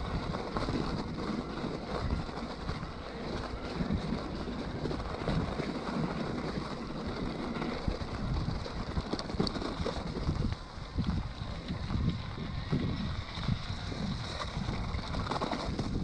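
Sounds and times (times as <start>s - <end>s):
tyres rolling through slush: 0.0s - 16.0s
wind buffeting microphone: 0.0s - 16.0s.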